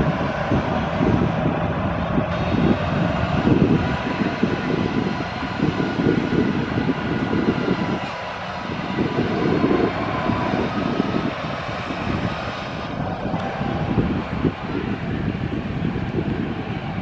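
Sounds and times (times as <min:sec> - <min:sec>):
faint jet engine whine: 0:00.0 - 0:17.0
jet airliner engine rumble: 0:00.0 - 0:17.0.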